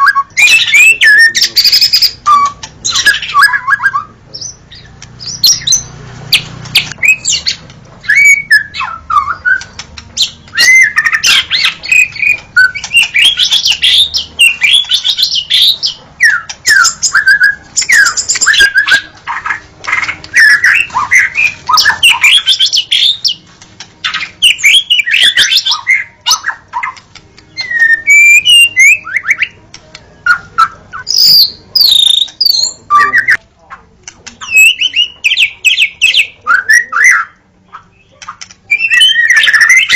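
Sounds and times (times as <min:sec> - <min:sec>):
bird singing whistled phrases: 0:00.0 - 0:23.4, 0:24.0 - 0:29.6, 0:30.2 - 0:33.4, 0:34.4 - 0:39.9.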